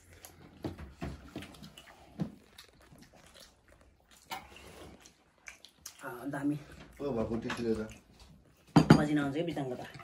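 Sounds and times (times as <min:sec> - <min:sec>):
people chewing: 0:00.0 - 0:08.8.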